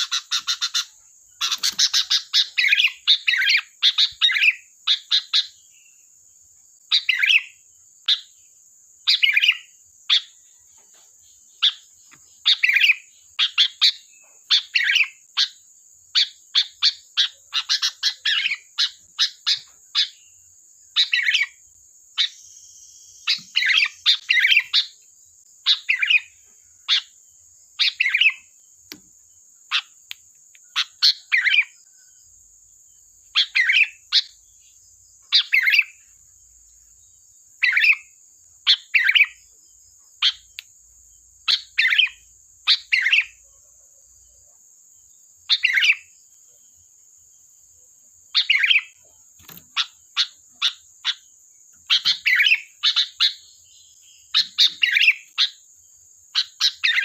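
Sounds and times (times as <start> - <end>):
bird chirping calls: 0.0 - 47.0, 47.7 - 57.0
steady high-pitched hiss: 0.0 - 57.0.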